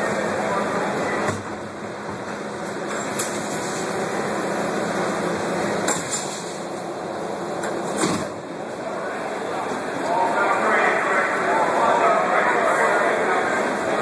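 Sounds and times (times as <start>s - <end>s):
crowd hubbub of voices: 0.0s - 14.0s.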